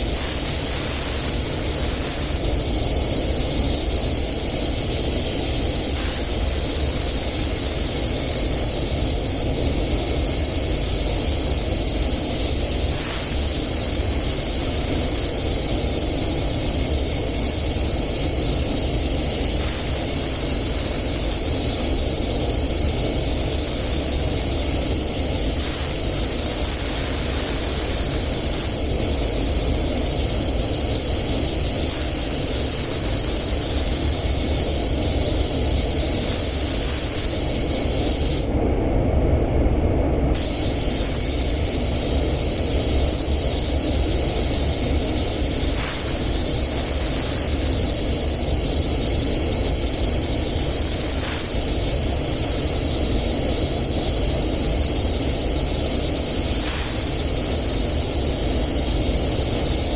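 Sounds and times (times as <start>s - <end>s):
paint spray gun hissing: 0.0s - 38.6s, 40.4s - 59.9s.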